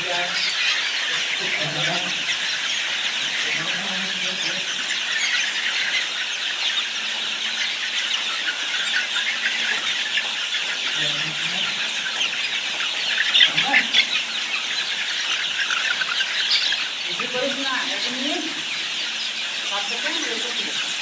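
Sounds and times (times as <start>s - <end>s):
chickens cheeping and squealing: 0.0s - 21.0s.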